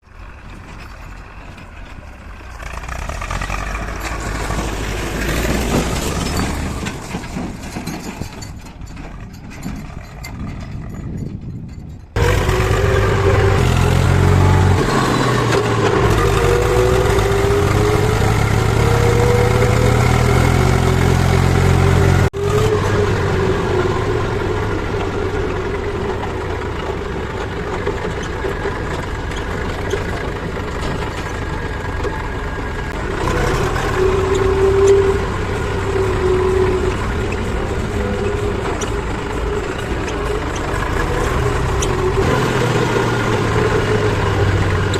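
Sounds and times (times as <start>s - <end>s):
heavy diesel machinery engines: 0.0s - 44.9s.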